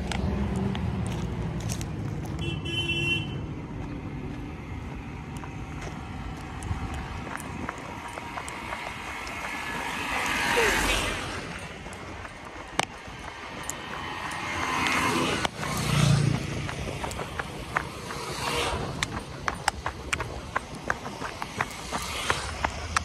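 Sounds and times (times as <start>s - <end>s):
footsteps crunching on gravel: 0.0s - 23.0s
vehicles passing on highway: 0.0s - 23.0s
low engine hum: 3.2s - 23.0s.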